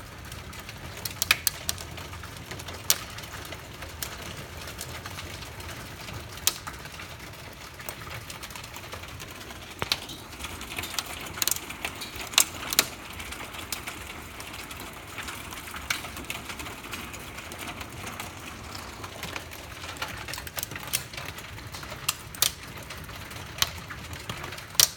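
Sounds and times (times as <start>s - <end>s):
hailstones clicking: 0.0s - 24.9s
rain noise: 0.0s - 24.9s.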